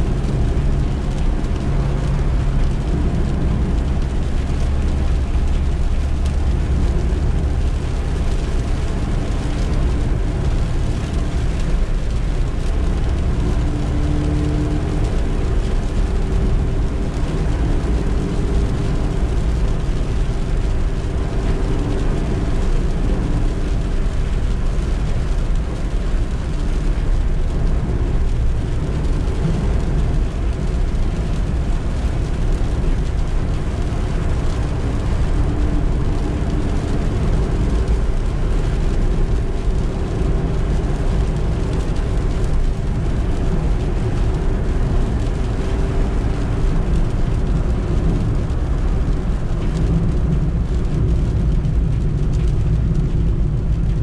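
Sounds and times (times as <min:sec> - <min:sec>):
low road rumble: 0:00.0 - 0:54.0
van engine running: 0:00.0 - 0:54.0.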